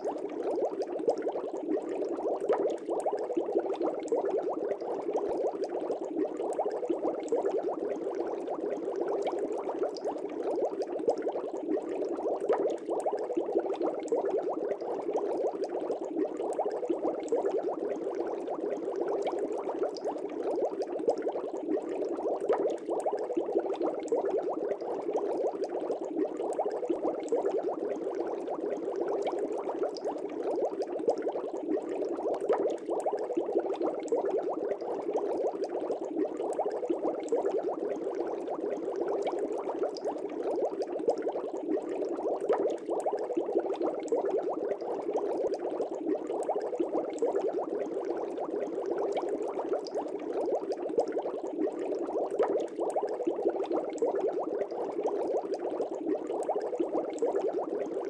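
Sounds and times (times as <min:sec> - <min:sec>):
bubbling in a fish tank: 0:00.0 - 0:58.0.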